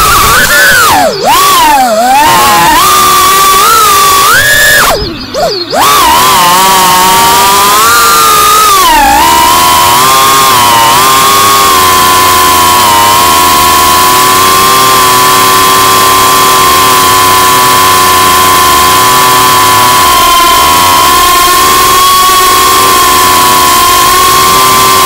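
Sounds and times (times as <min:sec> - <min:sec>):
drone motors and propellers whining: 0:00.0 - 0:25.0.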